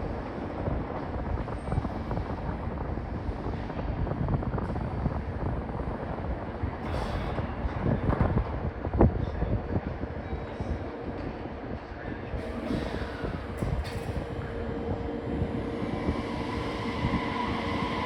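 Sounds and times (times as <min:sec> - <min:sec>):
train low rumble: 0:00.0 - 0:18.0
wind buffeting microphone: 0:00.0 - 0:18.0.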